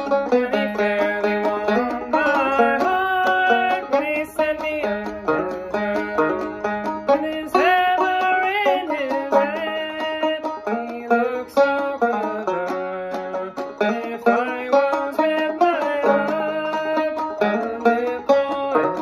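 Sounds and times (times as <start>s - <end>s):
banjo tune: 0.0s - 19.0s.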